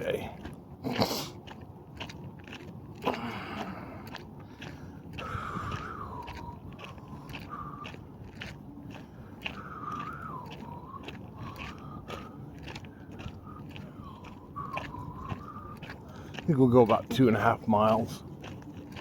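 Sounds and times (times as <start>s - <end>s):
footsteps on gravel: 0.0s - 19.0s.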